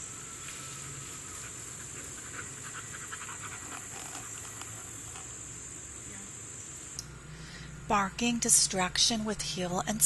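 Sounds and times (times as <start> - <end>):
insect chorus buzzing: 0.0 - 10.0.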